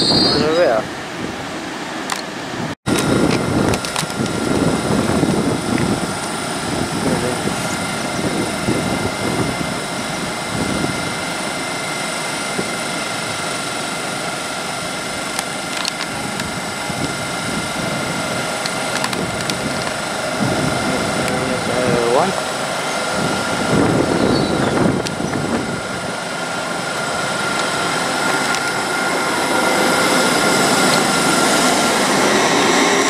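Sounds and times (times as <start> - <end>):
high whining tones: 0.0 - 33.0
train equipment humming: 0.0 - 33.0.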